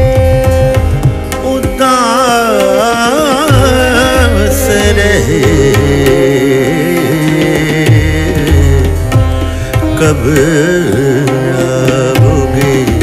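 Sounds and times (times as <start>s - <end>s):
tabla: 0.0s - 13.0s
person singing ornamented melody: 1.4s - 13.0s.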